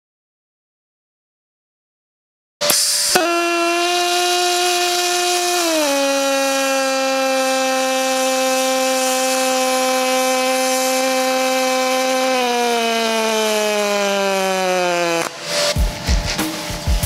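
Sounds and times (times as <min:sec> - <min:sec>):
welding arc buzzing and hissing: 0:02.6 - 0:17.0.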